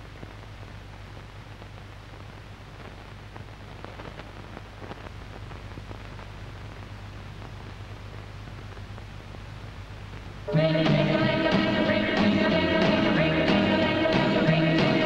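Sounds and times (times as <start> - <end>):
hiss and crackle: 0.0 - 12.5
low steady hum: 0.0 - 15.0.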